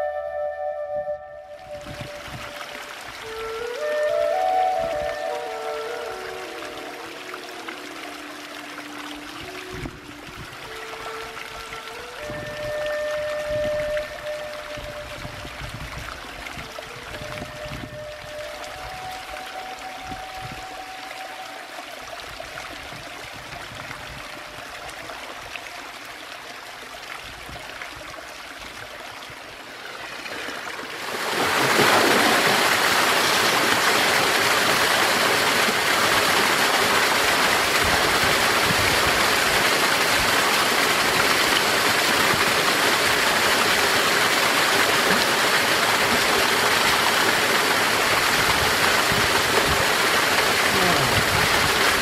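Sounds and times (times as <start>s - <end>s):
small waterfall rushing: 1.4s - 52.0s
water trickling into rock pool: 1.6s - 52.0s.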